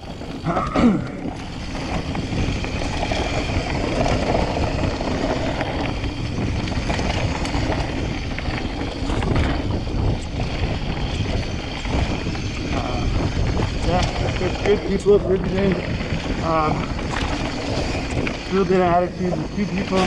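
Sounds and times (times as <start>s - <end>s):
bike rattles and clicks: 0.0s - 20.0s
tyres rolling on dirt: 0.0s - 20.0s
wind rumble on microphone: 0.0s - 20.0s.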